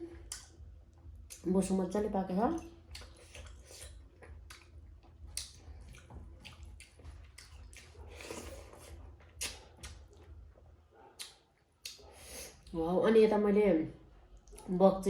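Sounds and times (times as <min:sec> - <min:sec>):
wet chewing and mouth smacks: 0:00.1 - 0:01.5, 0:02.5 - 0:12.8, 0:14.3 - 0:14.7.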